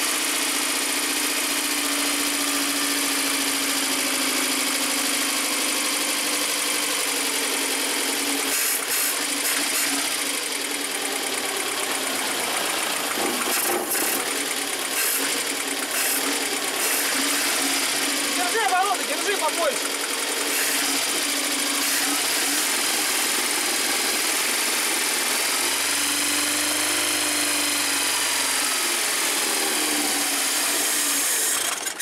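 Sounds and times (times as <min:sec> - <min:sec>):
car engine running unevenly: 0:00.2 - 0:32.0.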